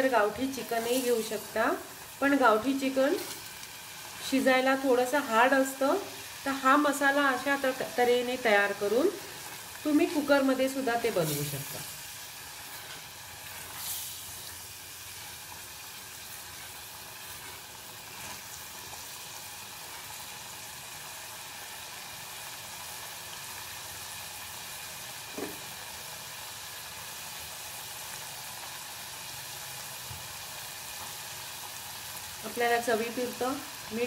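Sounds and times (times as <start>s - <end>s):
meat sizzling in a pot: 0.0s - 34.0s.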